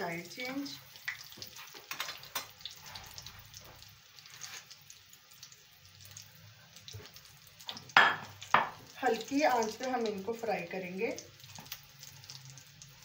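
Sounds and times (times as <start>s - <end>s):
oil sizzling with small pops: 0.0s - 13.0s.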